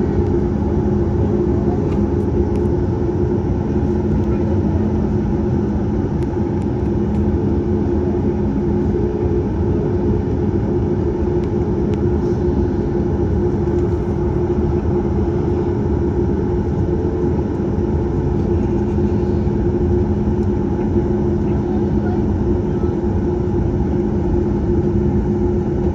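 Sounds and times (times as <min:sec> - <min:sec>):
airplane cabin engine noise: 0:00.0 - 0:25.9
constant low hum: 0:00.0 - 0:25.9.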